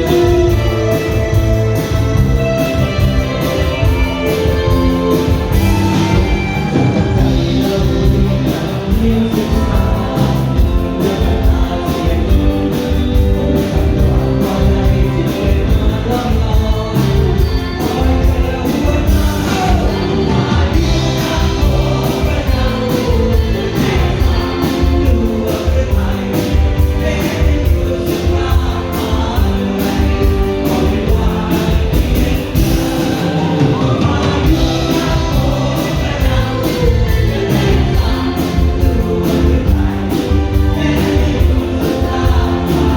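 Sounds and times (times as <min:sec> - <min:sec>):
guitars: 0:00.0 - 0:42.9
person singing: 0:00.0 - 0:42.9
steady drum beat: 0:00.0 - 0:42.9.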